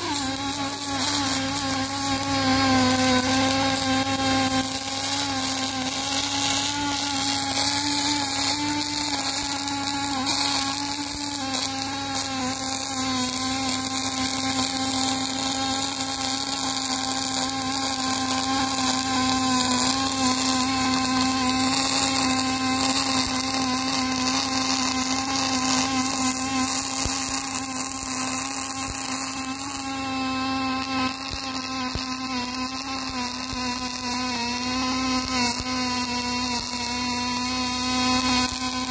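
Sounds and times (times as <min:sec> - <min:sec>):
welding arc buzzing hiss: 0:00.0 - 0:38.9.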